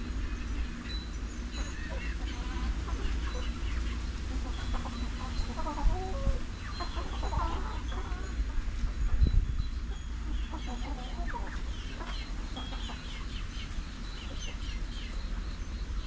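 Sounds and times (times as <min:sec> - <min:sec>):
chickens clucking: 0:00.1 - 0:15.8.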